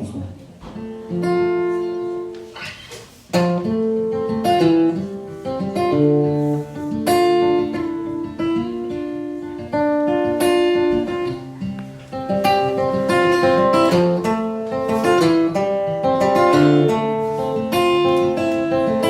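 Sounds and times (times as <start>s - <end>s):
acoustic guitar strumming chords: 0.7s - 19.0s.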